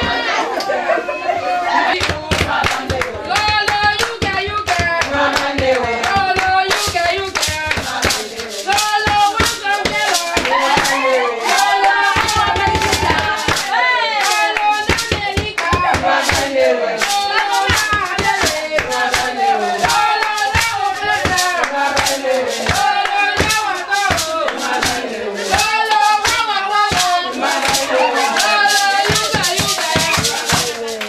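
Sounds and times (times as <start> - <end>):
women singing together: 0.0 - 31.0
hand clapping: 1.9 - 31.0.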